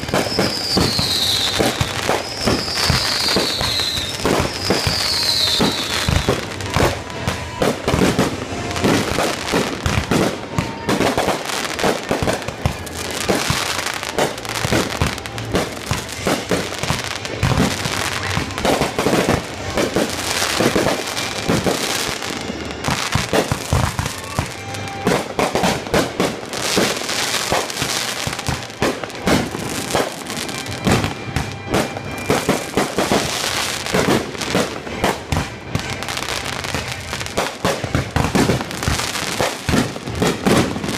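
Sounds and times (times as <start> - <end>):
fireworks bursting: 0.0 - 40.9
fireworks crackling: 0.0 - 40.9.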